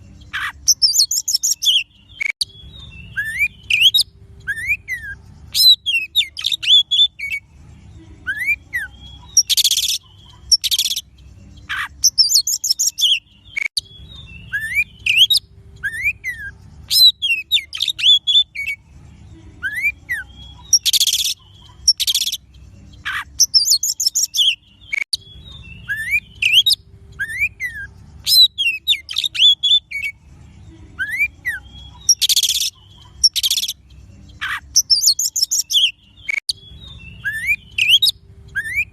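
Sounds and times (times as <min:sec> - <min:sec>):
bird song whistles and chirps: 0:00.0 - 0:07.4, 0:08.2 - 0:18.8, 0:19.6 - 0:30.2, 0:30.9 - 0:38.9.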